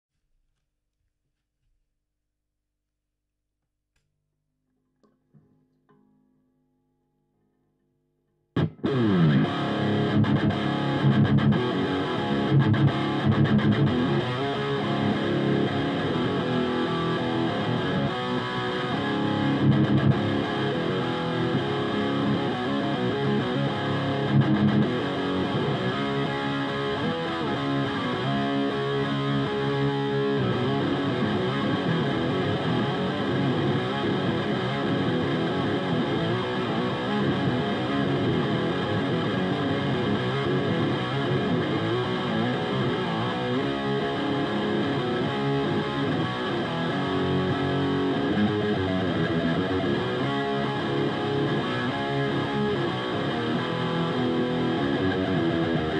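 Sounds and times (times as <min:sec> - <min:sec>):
distorted electric guitar riffing: 0:08.6 - 0:55.9.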